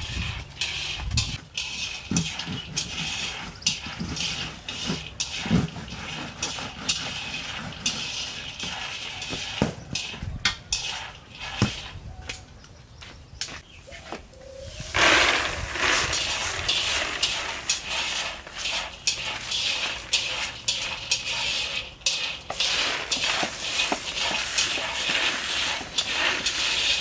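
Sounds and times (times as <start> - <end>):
peanuts rattling in a wok: 0.0 - 11.9, 14.8 - 27.0.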